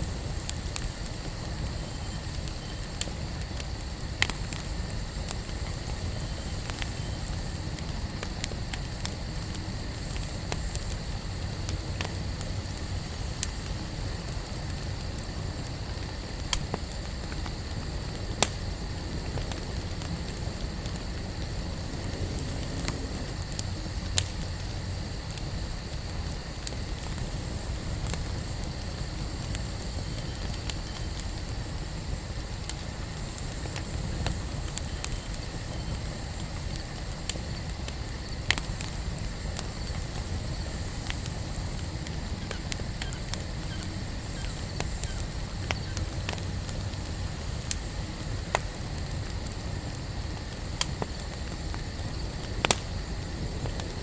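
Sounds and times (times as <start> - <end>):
campfire rumbling: 0.0 - 54.0
fire crackles and pops: 0.0 - 54.0.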